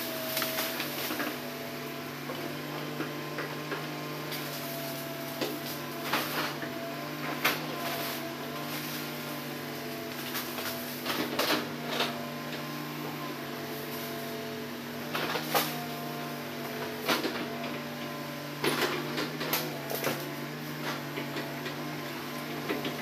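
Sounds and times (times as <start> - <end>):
excavator diesel engine humming: 0.0 - 23.0.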